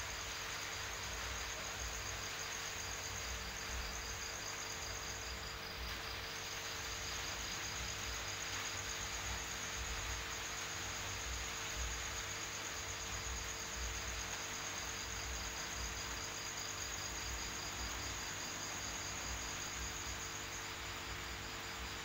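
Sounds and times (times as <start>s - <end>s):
insects trilling: 0.0s - 22.0s
low hum and hiss: 0.0s - 22.0s.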